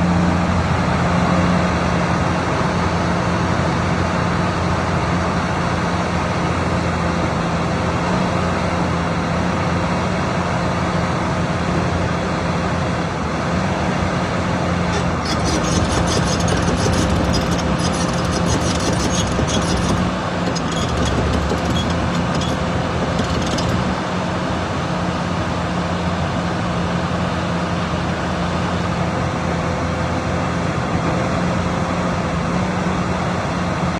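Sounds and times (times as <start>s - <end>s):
excavator diesel engine running: 0.0s - 33.2s.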